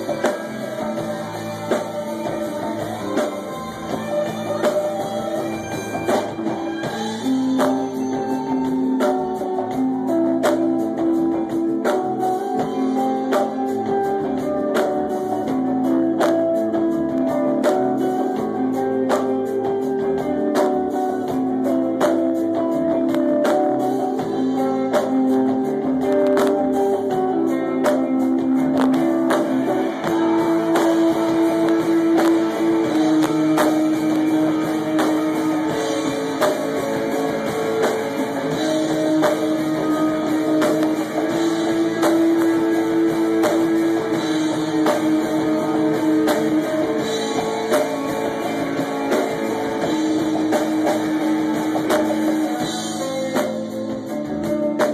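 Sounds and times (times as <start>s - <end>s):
drums keeping a steady beat: 0.0s - 54.9s
electric guitars: 0.0s - 54.9s
keyboards: 0.0s - 54.9s.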